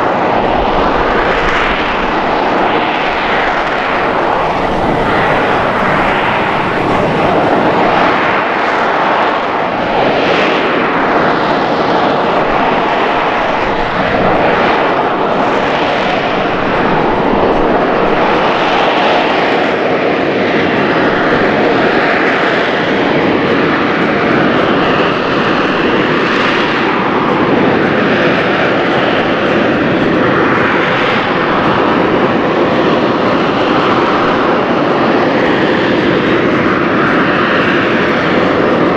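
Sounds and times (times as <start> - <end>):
jet engine roaring: 0.0 - 38.9.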